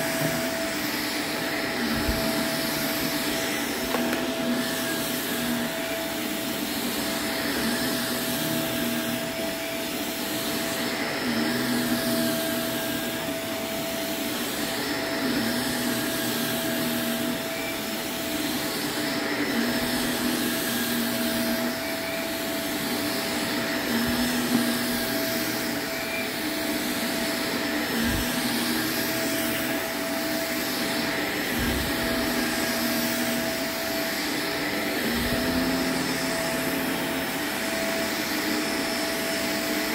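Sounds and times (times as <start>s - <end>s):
vacuum cleaner on rug: 0.0s - 39.9s.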